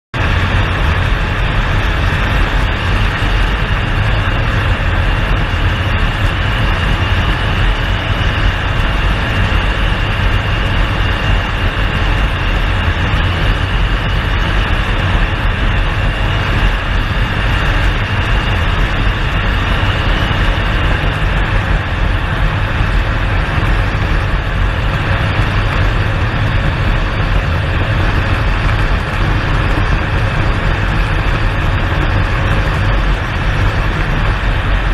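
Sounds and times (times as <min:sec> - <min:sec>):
turboprop engine running: 0:00.1 - 0:34.9.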